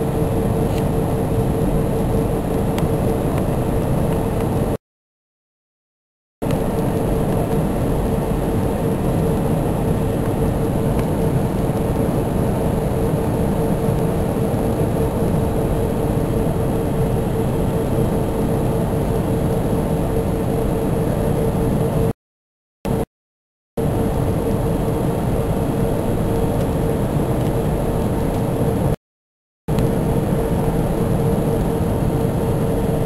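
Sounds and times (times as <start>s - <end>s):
airplane cabin engine rumble: 0.0s - 4.8s, 6.4s - 22.2s, 22.9s - 23.1s, 23.8s - 29.0s, 29.7s - 33.0s
constant hum: 0.0s - 4.8s, 6.4s - 22.1s, 23.8s - 29.0s, 29.7s - 33.0s.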